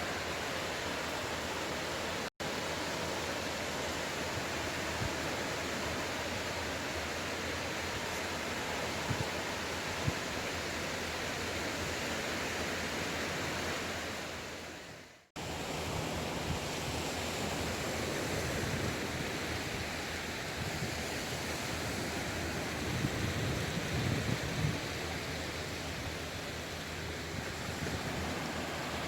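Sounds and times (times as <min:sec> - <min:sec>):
sea waves washing on shore: 0:00.0 - 0:29.0.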